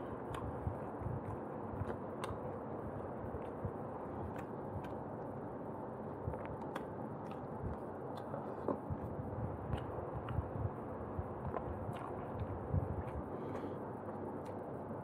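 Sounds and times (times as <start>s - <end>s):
close chewing of food: 0.0s - 14.6s.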